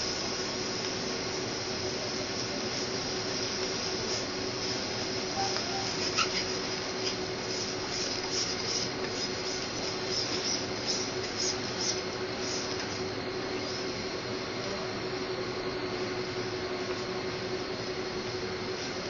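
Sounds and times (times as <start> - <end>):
ventilation hum: 0.0 - 19.0.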